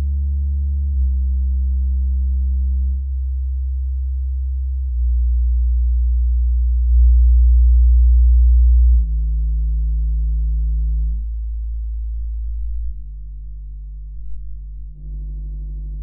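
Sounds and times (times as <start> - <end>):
low bass test tones: 0.0 - 16.0.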